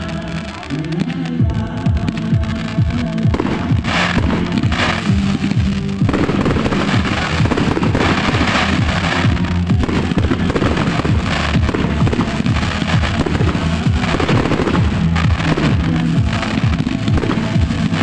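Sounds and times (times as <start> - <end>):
fireworks bursting and crackling: 0.0 - 18.0
music soundtrack: 0.0 - 18.0.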